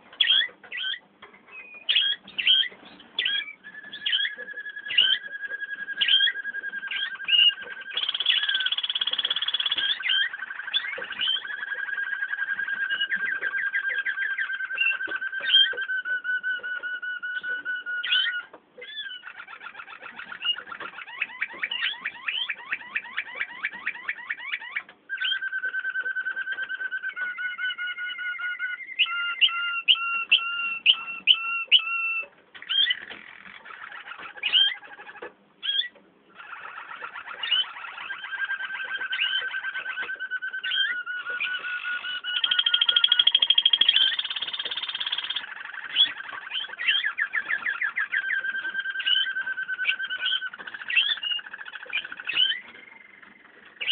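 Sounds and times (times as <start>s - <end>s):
canaries singing trills: 0.0s - 53.9s.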